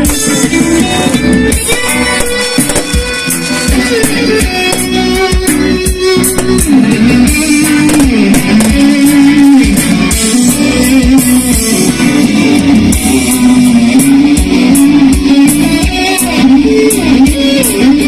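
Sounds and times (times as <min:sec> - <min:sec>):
electric guitar lead melody: 0:00.0 - 0:18.0
rock band playing: 0:00.0 - 0:18.0.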